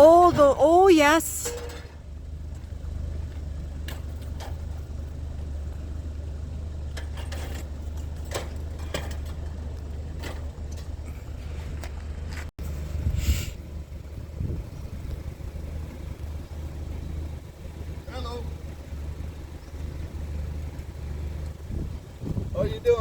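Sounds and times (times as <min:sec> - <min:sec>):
vehicle engine low rumble: 0:01.4 - 0:23.0.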